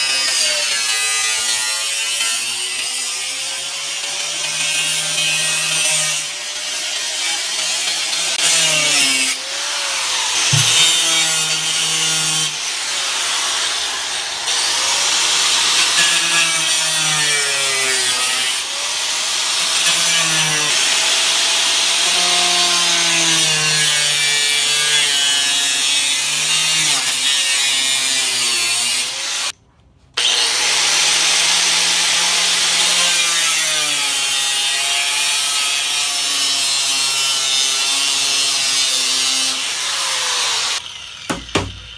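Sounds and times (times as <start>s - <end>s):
power tool cutting sheet metal: 0.0s - 29.6s, 30.2s - 41.9s.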